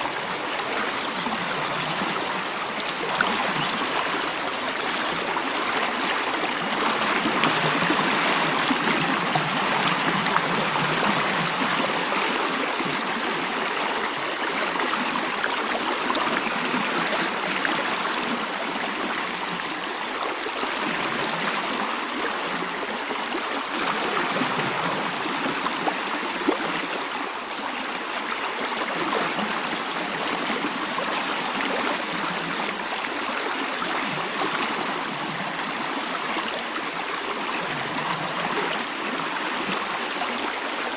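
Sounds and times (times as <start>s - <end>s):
mountain stream flowing: 0.0s - 40.9s.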